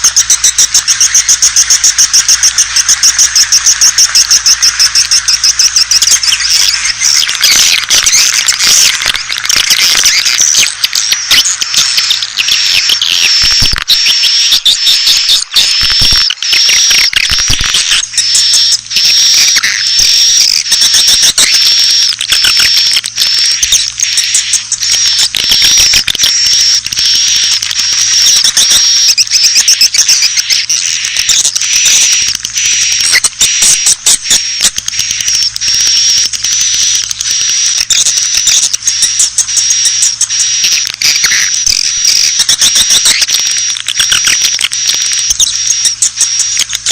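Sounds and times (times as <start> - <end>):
swiftlets twittering: 0.0 - 46.9.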